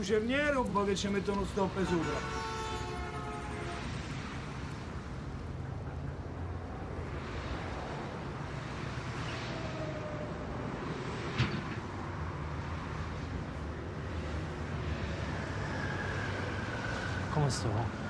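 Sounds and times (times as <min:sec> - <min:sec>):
distant traffic: 0:00.0 - 0:18.0
night street hum: 0:00.0 - 0:18.0.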